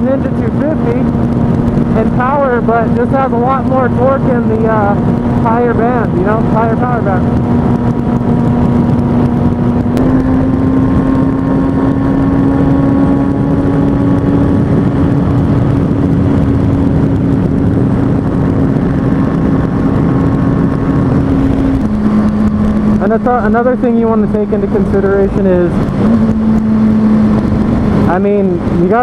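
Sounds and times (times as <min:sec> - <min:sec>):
motorcycle engine cruising: 0:00.0 - 0:29.0
wind noise: 0:00.0 - 0:29.0.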